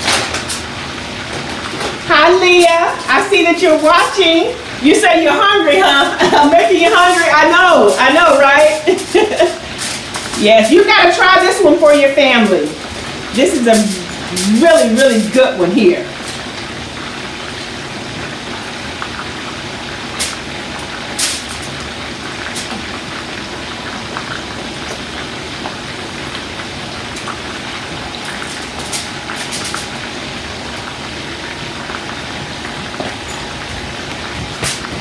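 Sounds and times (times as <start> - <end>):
chicken sizzling in oil: 0.0 - 35.0.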